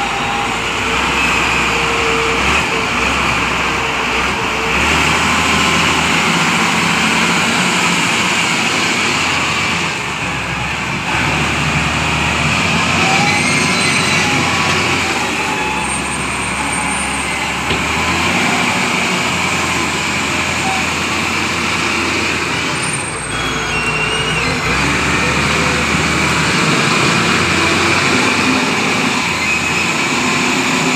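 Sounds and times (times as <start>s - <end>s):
heavy vehicle engine running: 0.0s - 30.9s.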